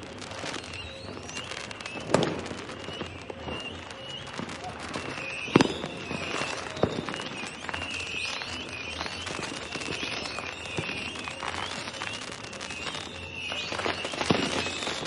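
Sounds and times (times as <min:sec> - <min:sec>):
firecrackers crackling: 0:00.0 - 0:15.0
high firework squeals: 0:00.0 - 0:15.0.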